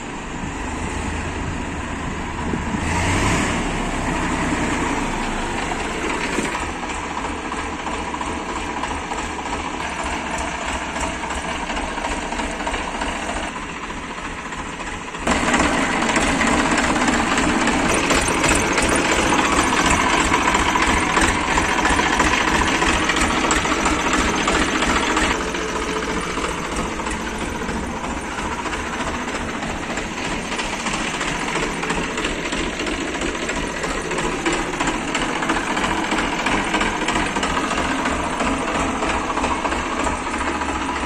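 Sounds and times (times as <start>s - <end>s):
diesel tractor engine idling: 0.0s - 41.0s.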